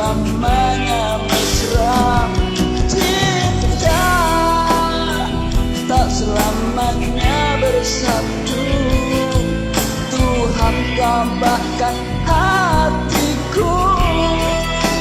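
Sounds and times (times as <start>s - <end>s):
pop-rock karaoke backing track: 0.0s - 15.0s.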